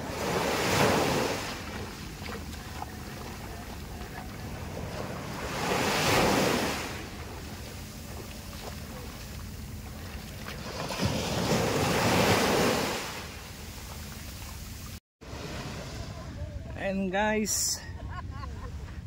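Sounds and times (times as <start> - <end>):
waves breaking on shore: 0.0 - 17.6.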